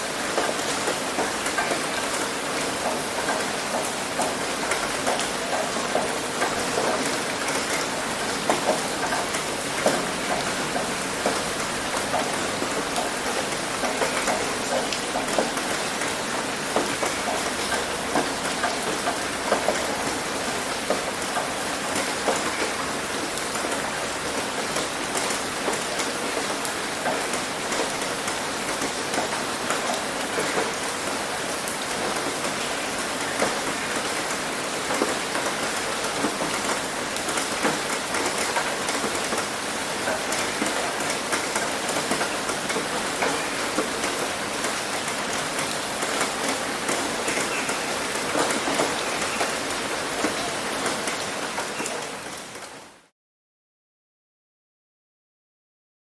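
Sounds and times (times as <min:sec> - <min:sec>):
heavy rain on a roof: 0:00.0 - 0:53.1.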